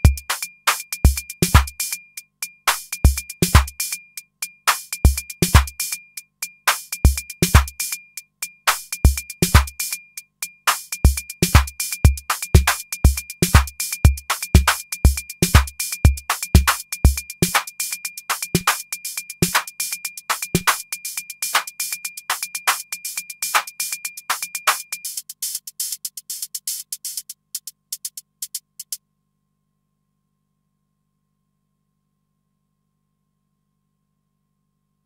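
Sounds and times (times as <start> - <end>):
electronic hi-hats: 0.0 - 29.0
electronic kick drum: 0.0 - 29.0.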